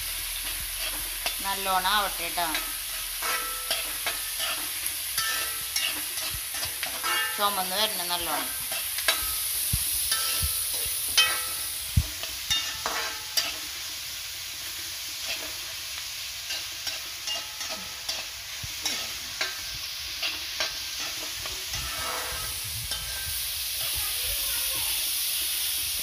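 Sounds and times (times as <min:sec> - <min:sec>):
food sizzling in oil: 0:00.0 - 0:26.0
utensil scraping and knocking pan: 0:00.4 - 0:13.8, 0:16.4 - 0:24.0.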